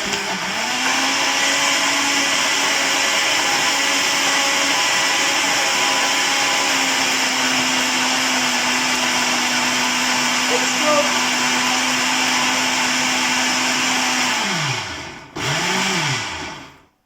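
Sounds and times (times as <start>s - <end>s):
blender motor whirring: 0.0s - 16.9s.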